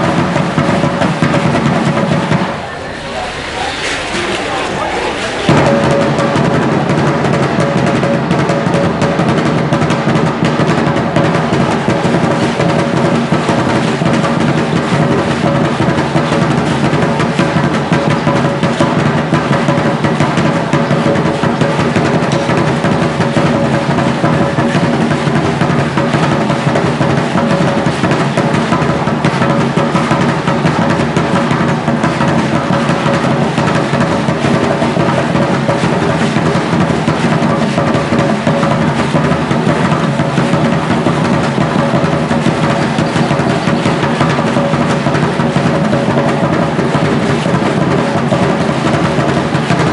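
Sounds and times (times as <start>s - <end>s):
drumming on large drums: 0.0s - 49.9s.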